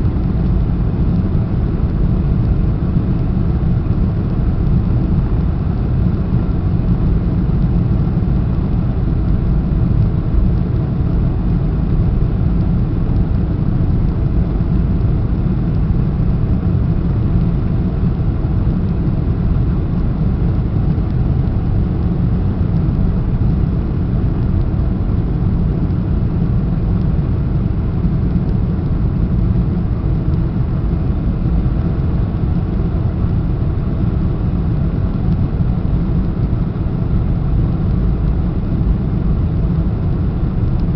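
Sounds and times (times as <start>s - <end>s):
aircraft engines rumbling: 0.0s - 40.9s.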